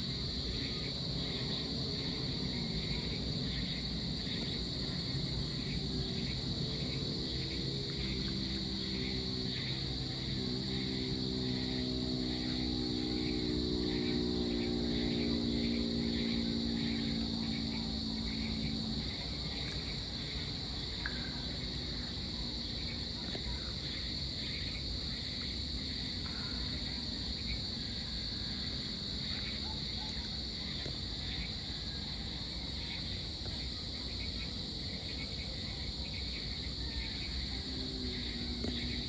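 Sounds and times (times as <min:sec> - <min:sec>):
crickets chirping: 0:00.0 - 0:39.0.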